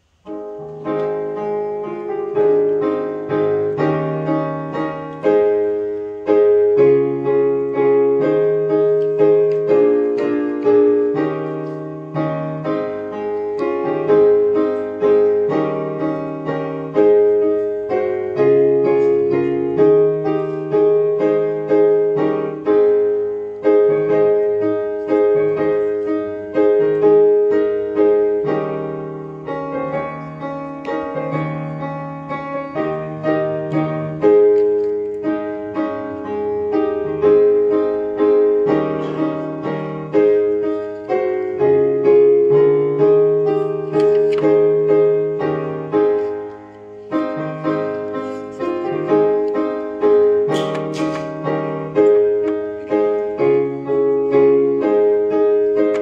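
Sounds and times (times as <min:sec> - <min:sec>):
slow solo piano chords: 0:00.0 - 0:56.0.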